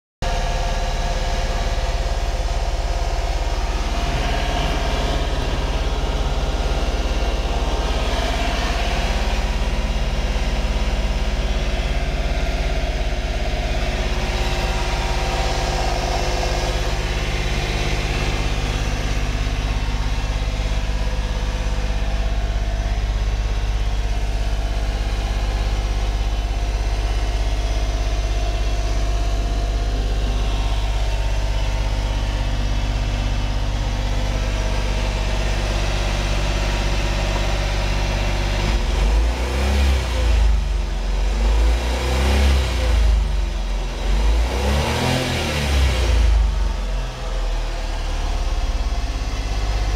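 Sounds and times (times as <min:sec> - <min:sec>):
truck engine idling: 0:00.2 - 0:49.9.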